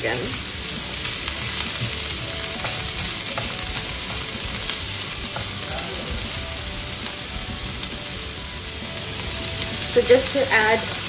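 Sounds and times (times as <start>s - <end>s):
onions sizzling in oil: 0.0s - 11.0s
spatula stirring in pan: 0.4s - 11.0s.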